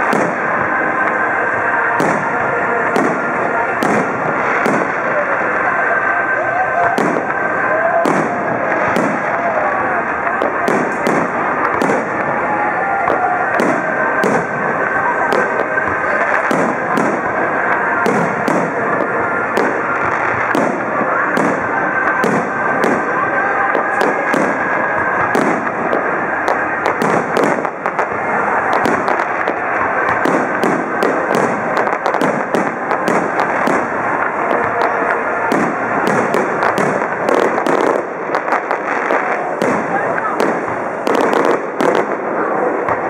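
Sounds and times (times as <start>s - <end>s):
fireworks bangs and pops: 0.0s - 43.0s.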